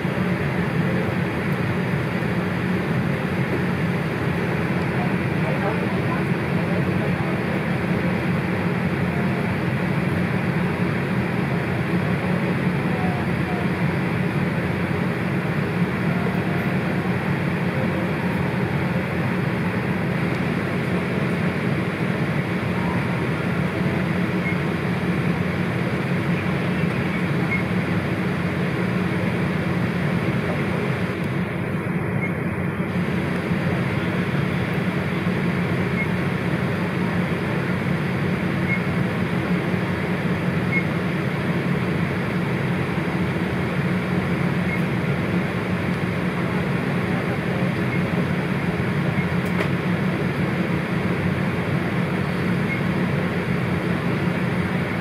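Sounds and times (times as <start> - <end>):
aircraft cabin air rush: 0.0 - 55.0.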